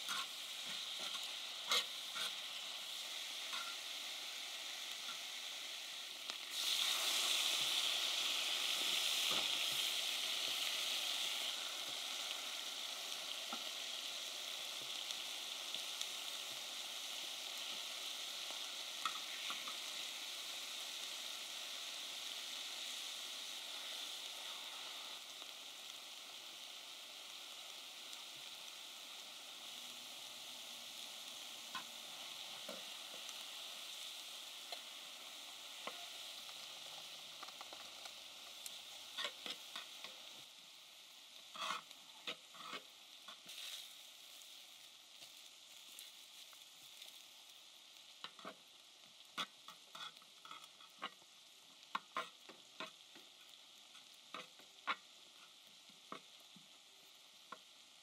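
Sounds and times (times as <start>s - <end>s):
meat sizzling on a griddle: 0.0s - 58.0s.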